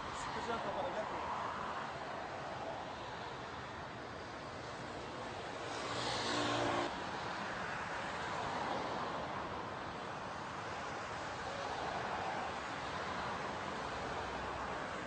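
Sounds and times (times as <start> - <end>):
background traffic: 0.0 - 15.0.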